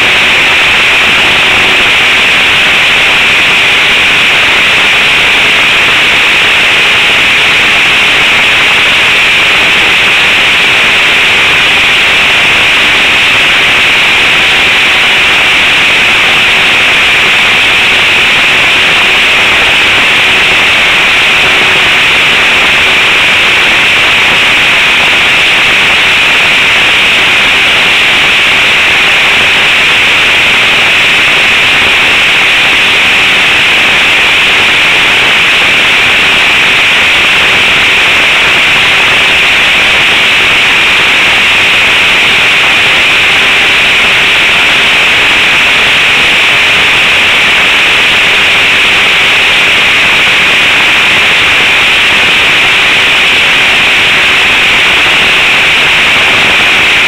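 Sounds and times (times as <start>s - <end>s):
model airplane engine drone: 0.0s - 57.0s.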